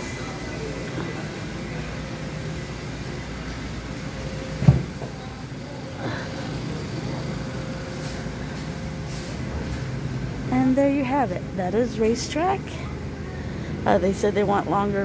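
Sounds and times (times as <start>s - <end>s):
store interior hum: 0.0s - 15.0s.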